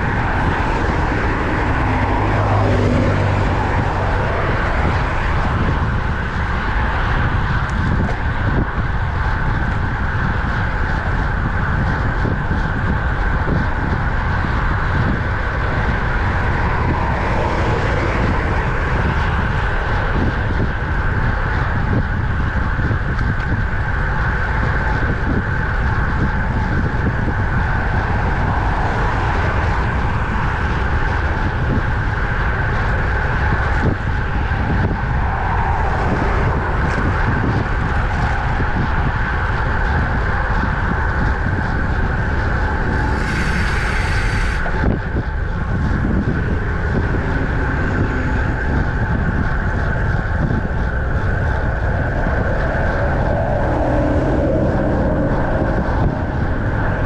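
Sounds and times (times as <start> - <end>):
tyre and road noise hum: 0.0 - 57.0
wind rushing over microphone: 0.0 - 57.0.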